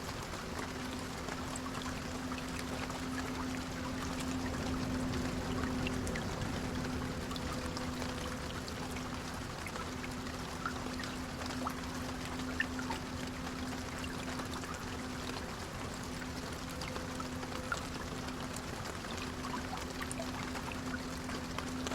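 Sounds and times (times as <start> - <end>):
rain on a bus: 0.0 - 21.9
raindrop ticks: 0.0 - 21.9.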